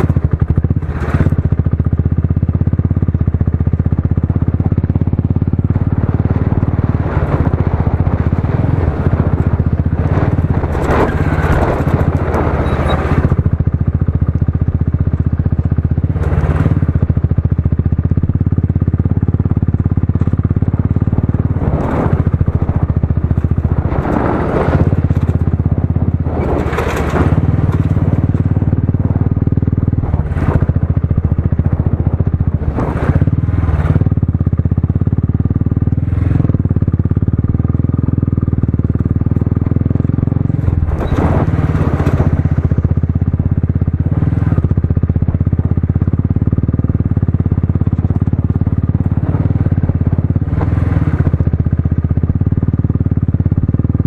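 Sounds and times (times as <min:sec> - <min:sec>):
wind and ground scraping rush: 0:00.0 - 0:01.5, 0:04.8 - 0:14.0, 0:18.5 - 0:45.6, 0:46.2 - 0:51.8
motorcycle engine running: 0:00.0 - 0:54.0.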